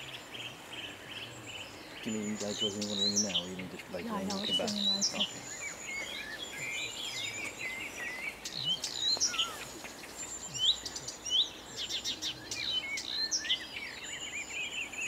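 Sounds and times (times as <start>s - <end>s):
reed warbler singing: 0.0s - 15.0s.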